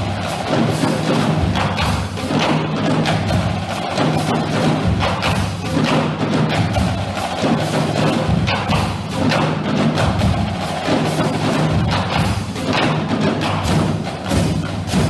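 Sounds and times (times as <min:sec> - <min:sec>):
marching drumline cadence: 0:00.0 - 0:15.0
pitched bass drum notes: 0:00.0 - 0:15.0.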